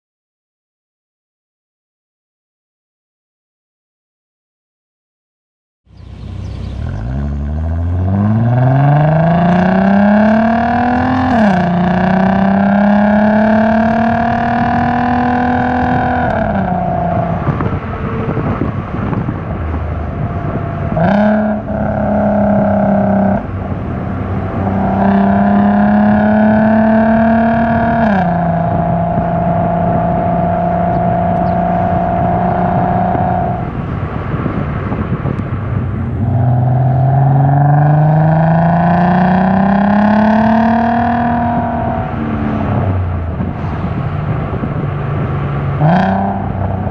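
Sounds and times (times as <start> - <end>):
car engine accelerating: 5.9 - 46.9.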